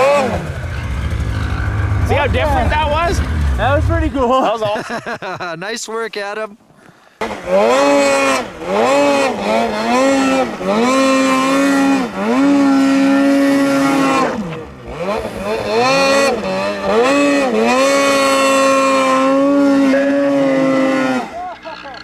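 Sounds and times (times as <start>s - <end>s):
snowmobile engine revving: 0.0s - 5.5s, 7.2s - 22.0s.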